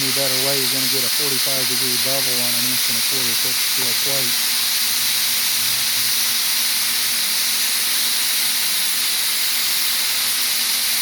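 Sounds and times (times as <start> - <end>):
cutting torch hissing: 0.0 - 11.0.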